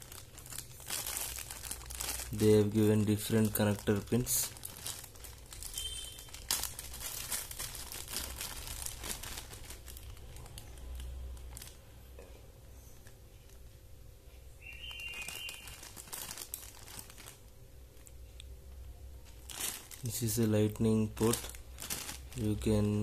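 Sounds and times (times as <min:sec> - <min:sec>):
plastic bag crinkling: 0:00.0 - 0:11.9, 0:14.6 - 0:18.4, 0:19.2 - 0:23.0.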